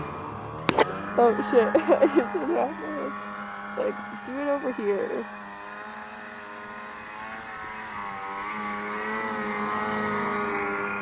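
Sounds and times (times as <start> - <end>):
snowmobile engine under throttle: 0.0 - 11.0.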